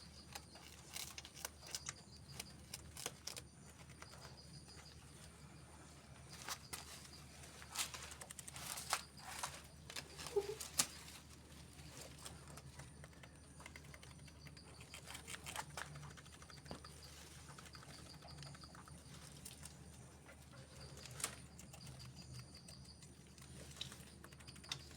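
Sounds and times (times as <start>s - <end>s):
animals tapping and scratching: 0.0s - 5.4s, 6.2s - 24.9s.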